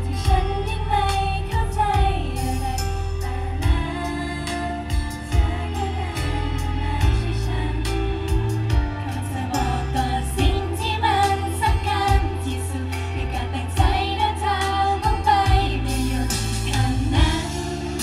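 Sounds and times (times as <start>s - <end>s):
bass and drum backing: 0.0s - 18.0s
women singing pop song: 0.0s - 18.0s.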